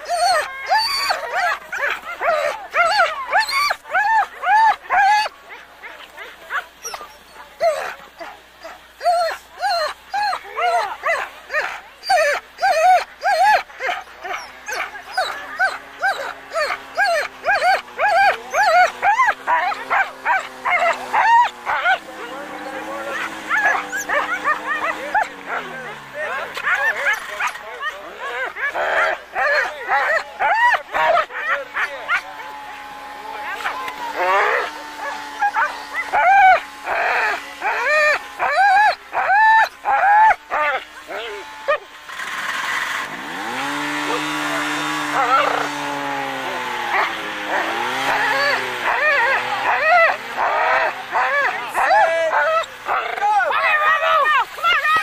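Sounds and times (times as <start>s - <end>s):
dogs barking high yelps: 0.0s - 55.0s.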